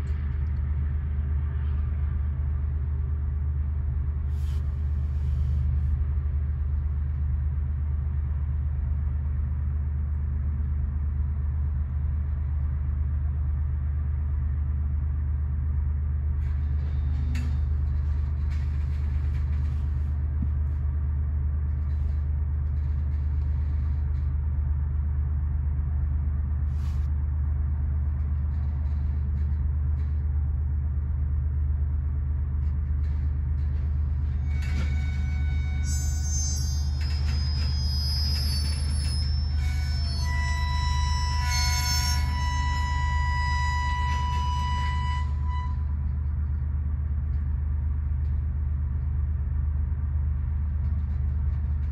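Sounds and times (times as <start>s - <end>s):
steady low rumble of train: 0.0s - 51.9s.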